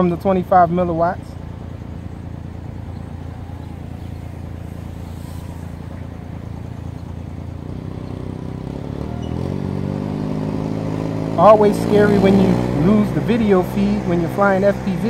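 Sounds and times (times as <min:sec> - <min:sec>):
quadcopter motors buzzing: 0:01.5 - 0:15.0.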